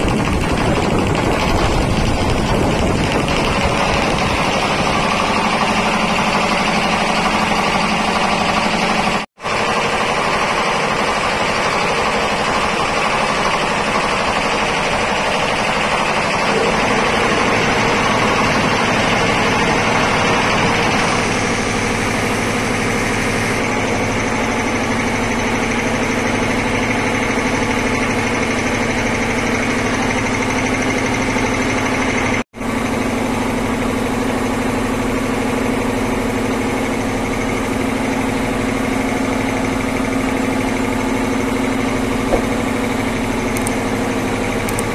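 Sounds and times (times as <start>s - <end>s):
air compressors running: 0.0s - 44.9s.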